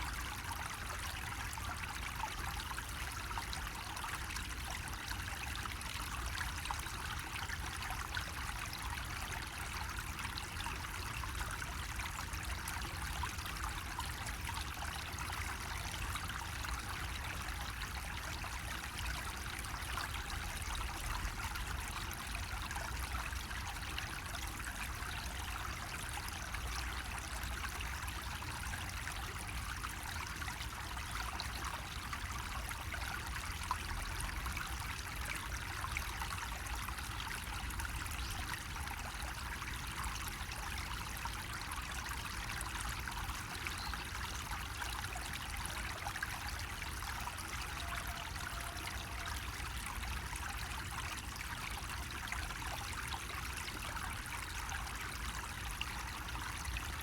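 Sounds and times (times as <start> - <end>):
water trickling from spout: 0.0 - 57.0.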